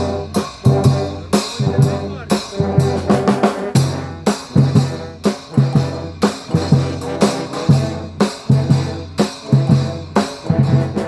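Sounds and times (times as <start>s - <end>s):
brass band with drums: 0.0s - 11.0s.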